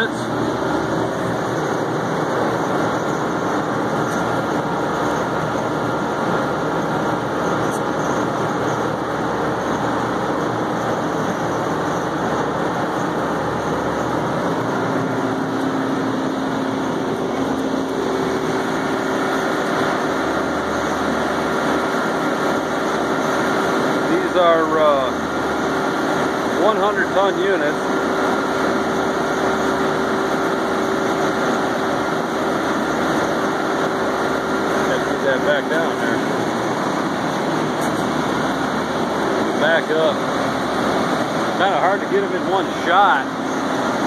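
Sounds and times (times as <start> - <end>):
air-cooled condensing units droning: 0.0 - 44.0
faint steady hum tones: 0.0 - 44.0.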